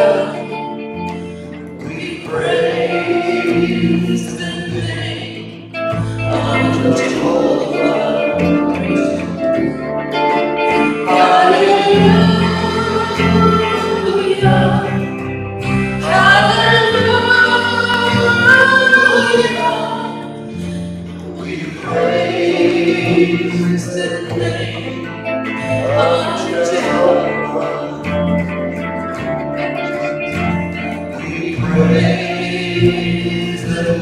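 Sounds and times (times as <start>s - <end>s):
man and woman singing: 0.0s - 0.8s, 1.6s - 9.4s, 10.8s - 15.1s, 16.0s - 28.8s, 30.7s - 34.0s
bass guitar: 0.0s - 34.0s
electric guitar: 0.0s - 34.0s.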